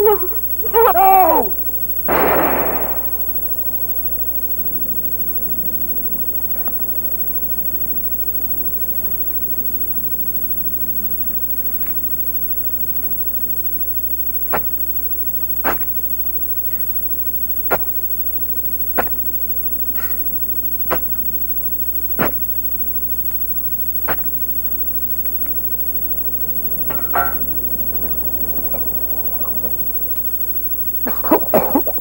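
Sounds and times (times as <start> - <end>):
tape hiss and hum: 0.0 - 32.0.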